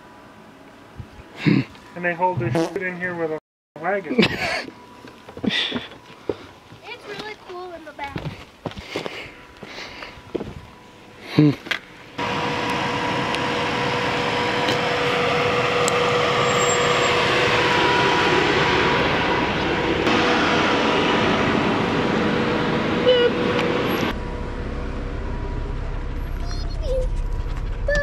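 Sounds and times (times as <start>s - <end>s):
faint steady whine: 0.0s - 28.0s
off-road vehicle engine and road noise: 0.0s - 28.0s.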